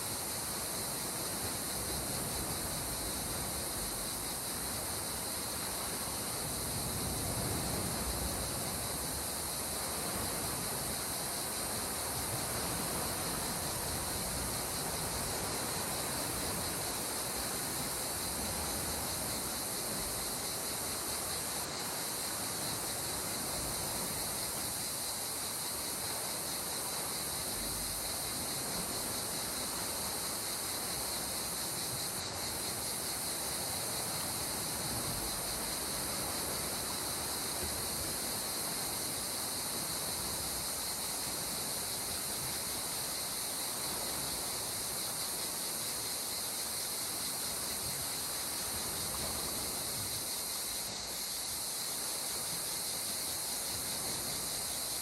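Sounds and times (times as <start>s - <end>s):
insects chirring: 0.0s - 55.0s
calm sea washing: 0.2s - 45.9s.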